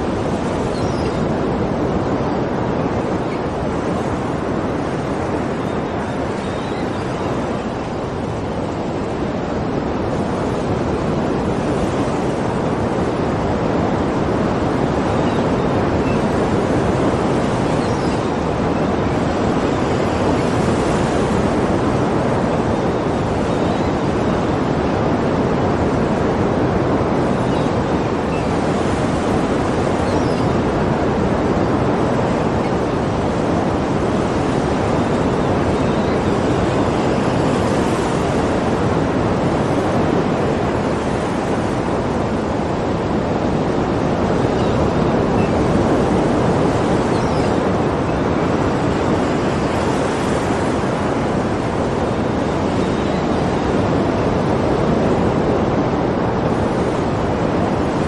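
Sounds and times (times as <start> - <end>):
sea waves washing: 0.0 - 58.0.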